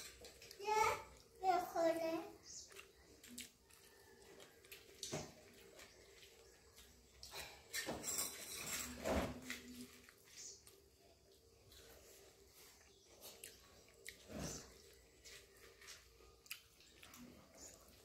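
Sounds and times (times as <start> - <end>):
crunches of person eating: 2.4 - 7.9, 8.8 - 18.0.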